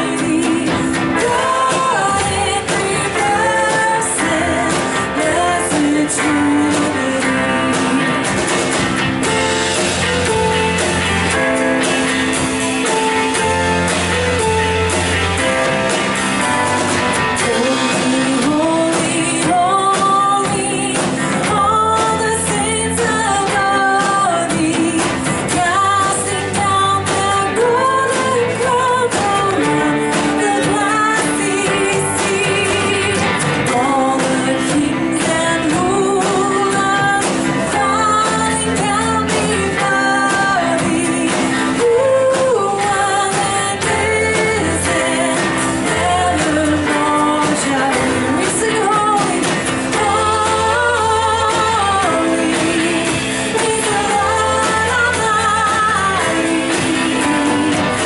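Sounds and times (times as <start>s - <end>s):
person singing: 0.0s - 58.0s
worship band playing: 0.0s - 58.0s.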